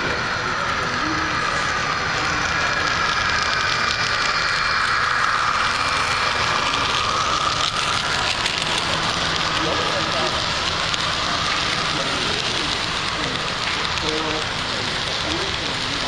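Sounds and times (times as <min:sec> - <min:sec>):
model train motors whirring: 0:00.0 - 0:16.0
wheels rattling on rail: 0:00.0 - 0:16.0.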